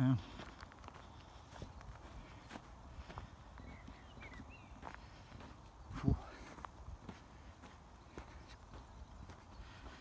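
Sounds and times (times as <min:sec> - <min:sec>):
footsteps on gravel and grass: 0:00.0 - 0:10.0.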